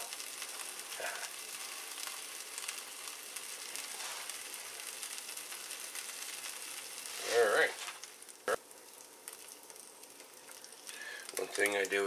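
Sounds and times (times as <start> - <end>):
sandwich sizzling in a pan: 0.0 - 12.0.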